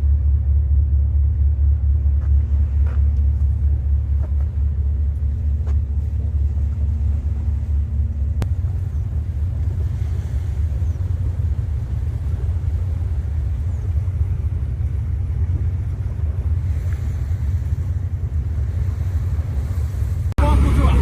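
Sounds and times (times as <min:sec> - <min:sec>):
boat engine rumbling: 0:00.0 - 0:21.0
faint steady hum: 0:00.0 - 0:21.0.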